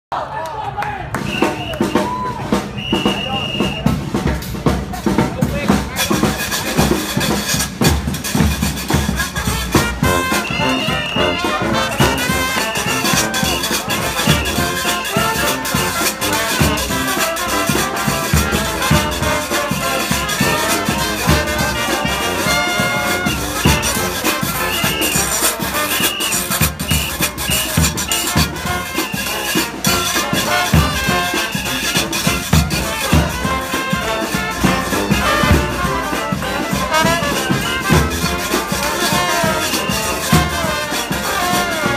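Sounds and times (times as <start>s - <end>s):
brass band playing jazz: 1.1s - 41.9s
steady drum beat: 1.2s - 41.9s.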